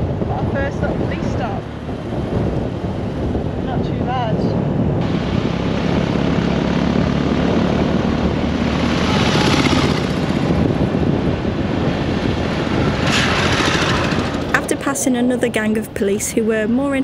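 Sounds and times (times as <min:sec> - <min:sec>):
motorcycle engine drone: 0:00.0 - 0:16.0
wind rush over microphone: 0:00.0 - 0:17.0.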